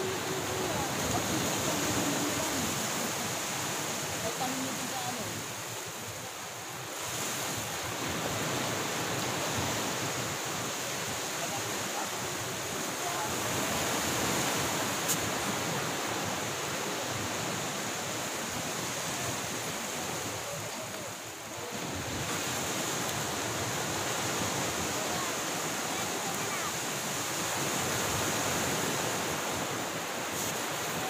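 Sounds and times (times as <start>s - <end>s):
ocean surf washing ashore: 0.0s - 31.0s.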